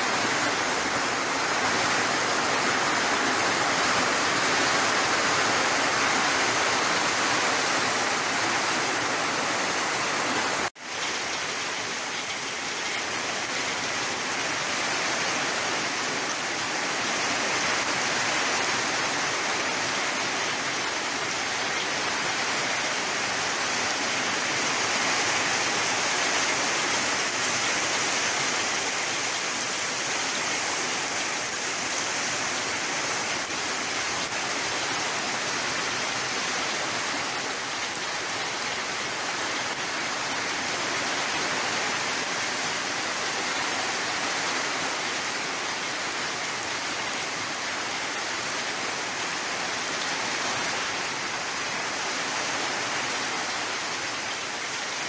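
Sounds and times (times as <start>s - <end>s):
rain falling on grass and trees: 0.0s - 55.0s.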